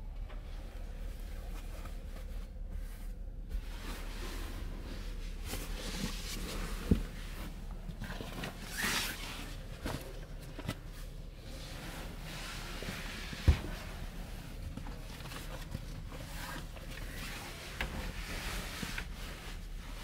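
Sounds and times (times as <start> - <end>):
bedding rustling: 0.2 - 20.0.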